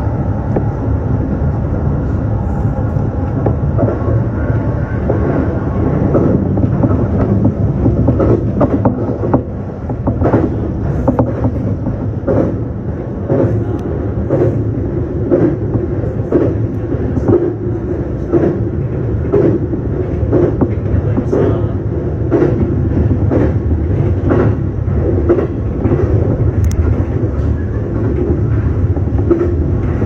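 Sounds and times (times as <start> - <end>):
train rumbling: 0.0 - 30.0
wheels clacking over rail joints: 3.5 - 30.0.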